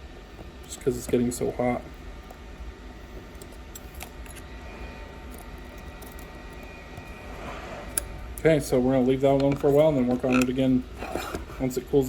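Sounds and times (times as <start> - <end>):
hot air station humming: 0.0 - 12.0.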